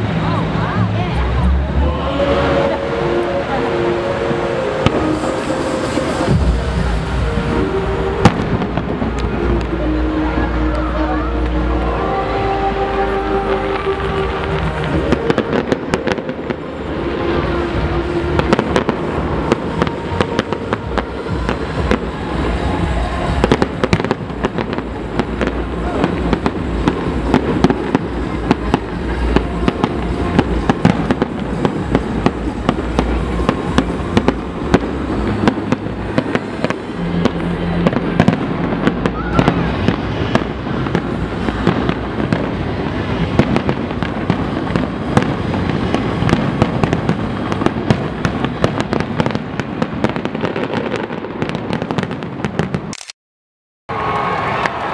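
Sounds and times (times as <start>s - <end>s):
low rumble: 0.0s - 50.0s
fireworks bangs and crackles: 0.0s - 52.9s.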